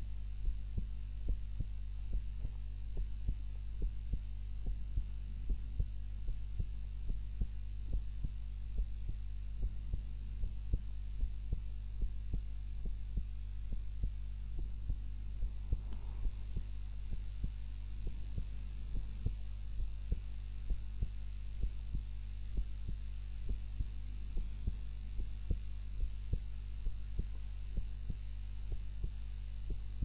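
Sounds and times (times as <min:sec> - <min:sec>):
constant low hum: 0:00.0 - 0:30.0
heartbeat: 0:00.0 - 0:30.0.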